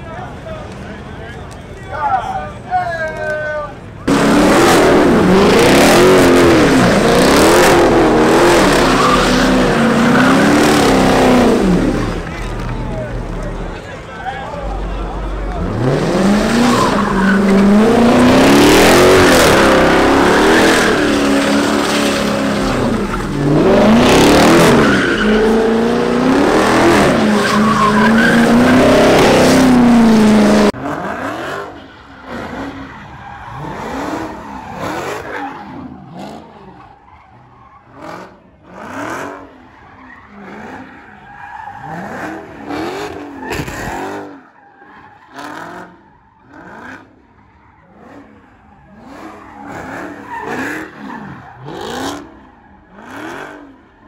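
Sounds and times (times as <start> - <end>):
tyres skidding: 0.0 - 54.0
car engine revving: 4.0 - 44.5, 45.2 - 54.0.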